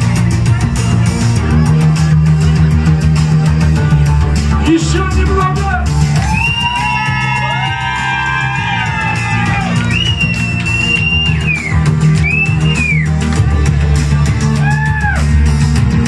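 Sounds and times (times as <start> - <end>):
steady low bass: 0.0 - 16.0.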